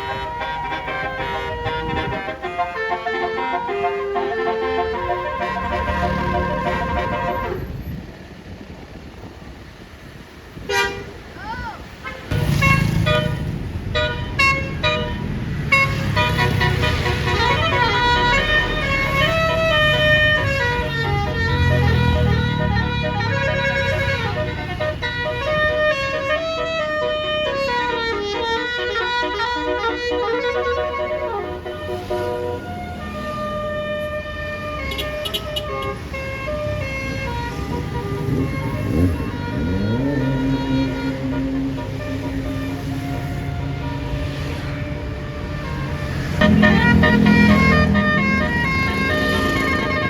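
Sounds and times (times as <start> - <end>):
tuned air horn melody: 0.0 - 7.8, 12.0 - 50.0
bus engine running: 0.0 - 50.0.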